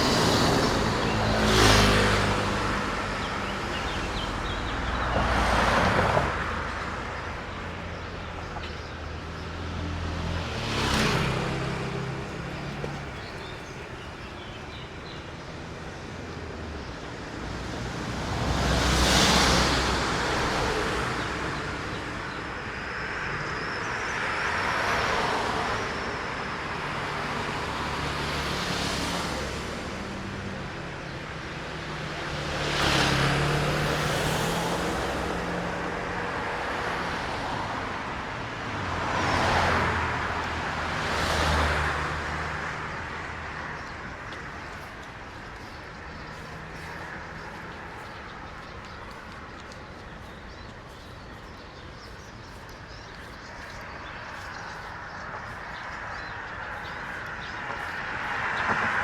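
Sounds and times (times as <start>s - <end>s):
cars passing on wet road: 0.0s - 59.0s.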